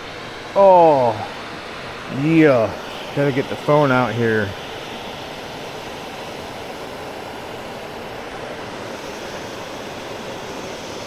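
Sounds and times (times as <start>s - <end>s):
water rushing over a dam: 0.0s - 11.0s.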